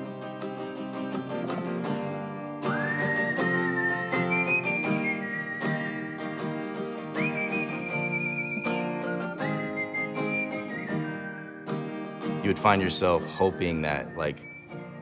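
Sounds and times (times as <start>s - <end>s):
plucked acoustic guitar: 0.0s - 15.0s
person whistling a melody: 2.6s - 15.0s.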